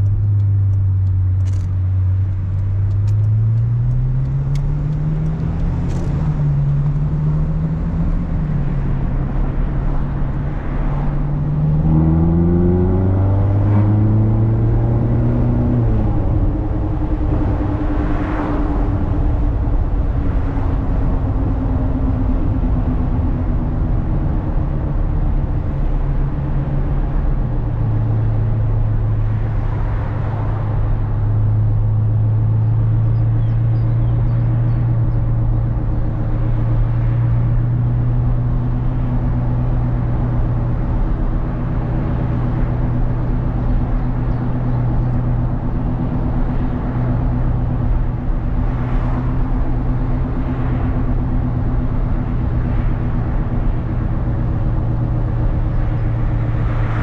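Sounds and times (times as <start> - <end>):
car engine cruising: 0.0 - 57.0.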